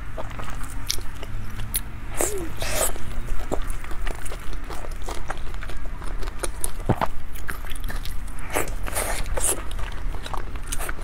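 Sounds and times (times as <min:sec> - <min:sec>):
wet chewing: 0:00.0 - 0:11.0.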